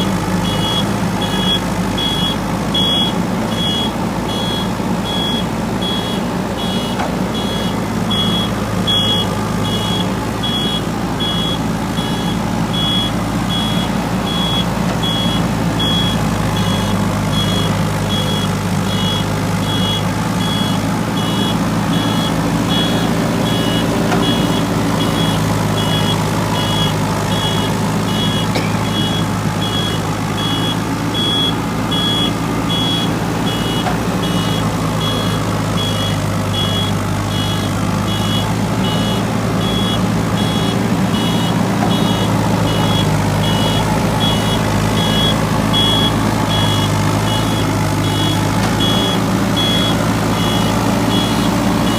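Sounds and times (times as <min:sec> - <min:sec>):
diesel engine running: 0:00.0 - 0:51.9
two-tone warning alarm beeping: 0:00.0 - 0:51.9.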